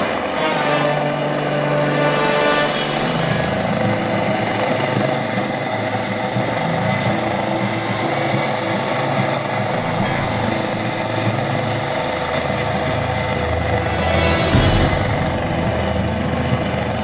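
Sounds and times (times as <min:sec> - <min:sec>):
helicopter rotor and engine: 0:00.0 - 0:17.0.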